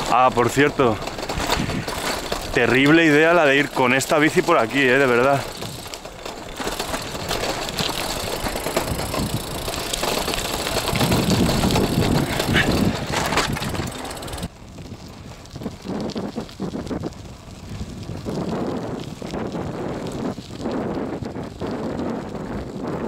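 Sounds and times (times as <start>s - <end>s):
bicycle rattling over rough path: 0.0s - 23.0s.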